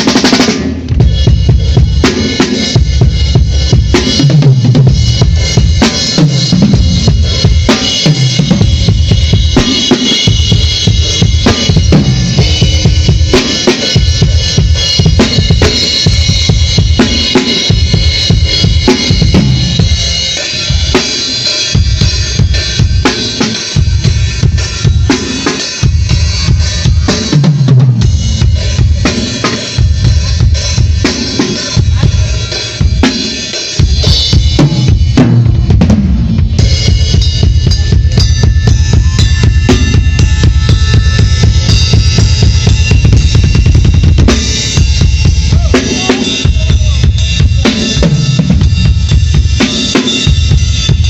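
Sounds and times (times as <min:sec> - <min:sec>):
drum kit playing: 0:00.0 - 0:51.0.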